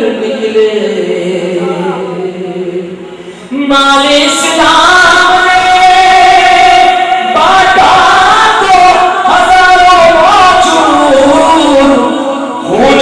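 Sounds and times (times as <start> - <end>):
man singing through pa system: 0.0 - 13.0.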